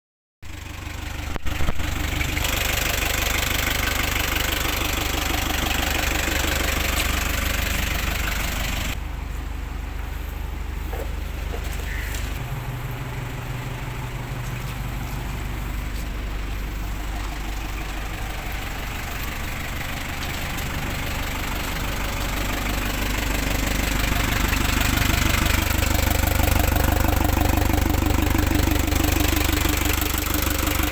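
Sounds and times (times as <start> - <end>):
diesel truck engine idling: 0.4 - 30.9.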